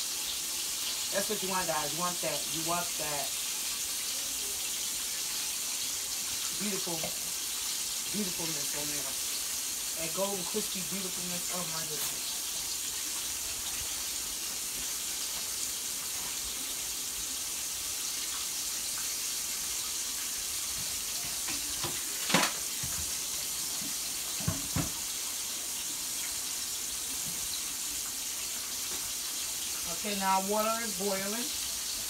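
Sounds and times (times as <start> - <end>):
meat frying in oil: 0.0 - 32.0
pot of water boiling: 0.0 - 32.0.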